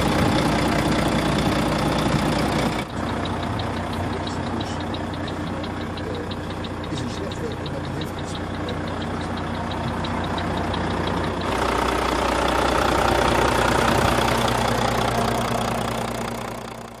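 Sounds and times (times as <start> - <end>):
diesel truck engine running: 0.0 - 17.0
faint regular ticking: 0.0 - 17.0.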